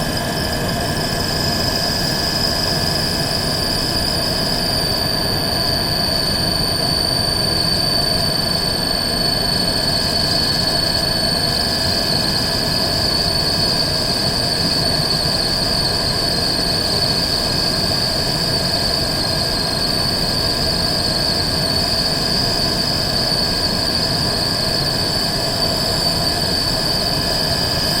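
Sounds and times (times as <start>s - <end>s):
motor high-pitched whine: 0.0s - 28.0s.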